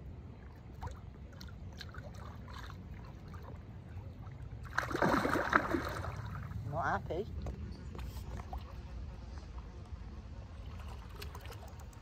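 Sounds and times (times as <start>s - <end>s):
lake water lapping: 0.3s - 9.7s, 10.5s - 12.0s.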